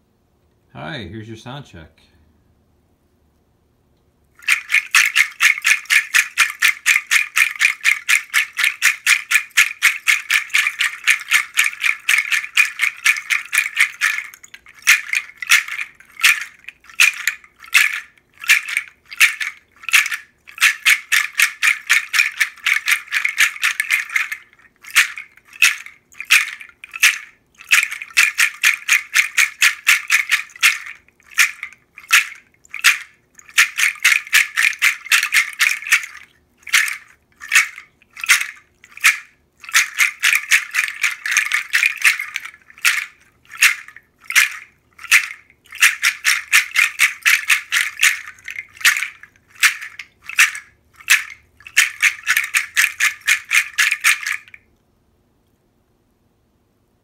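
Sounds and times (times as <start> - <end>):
chestnut shell rattle shaken: 4.4 - 54.6.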